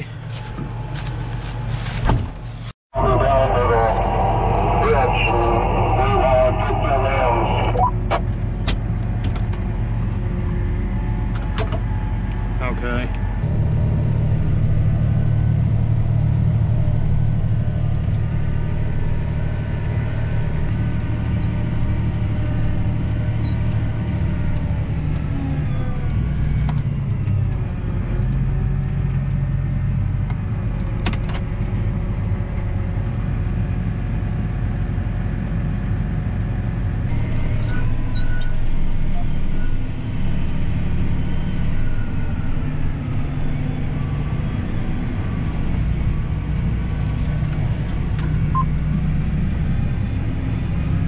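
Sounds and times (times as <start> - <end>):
tractor engine droning: 0.0 - 51.0.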